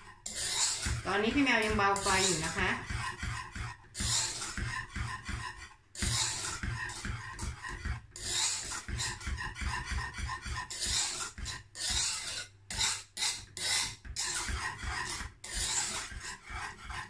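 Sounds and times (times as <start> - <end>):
whisk knocking against pan: 0.0 - 12.1, 12.7 - 17.0
whisk scraping a saucepan: 0.0 - 17.0.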